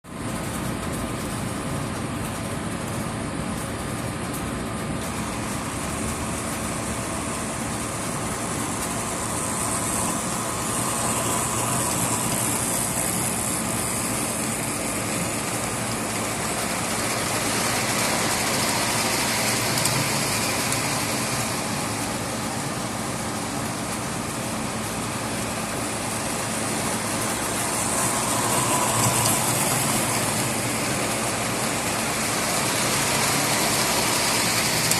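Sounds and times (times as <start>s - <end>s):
model train running on track: 0.0s - 34.9s.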